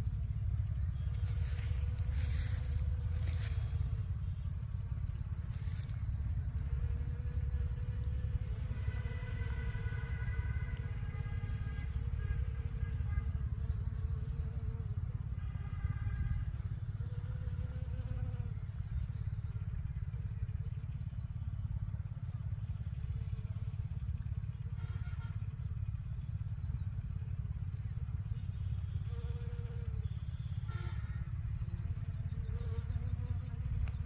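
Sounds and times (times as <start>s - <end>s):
bees buzzing faintly: 0.0s - 21.2s, 27.2s - 34.0s.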